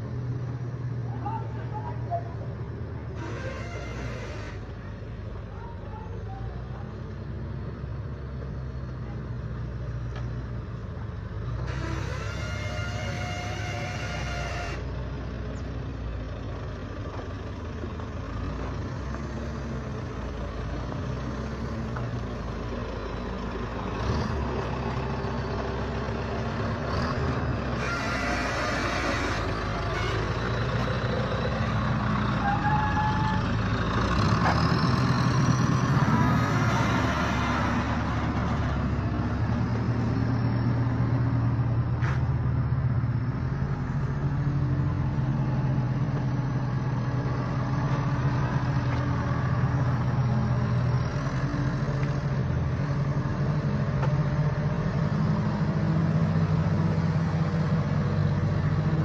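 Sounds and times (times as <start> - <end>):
heavy vehicle engine running: 0.0 - 59.0
street traffic noise: 0.0 - 59.0.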